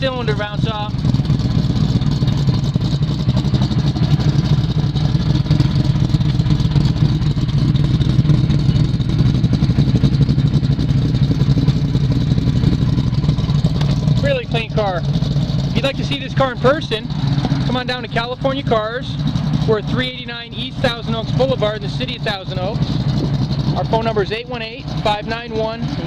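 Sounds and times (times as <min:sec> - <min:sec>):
car engine idling lumpily: 0:00.0 - 0:26.0.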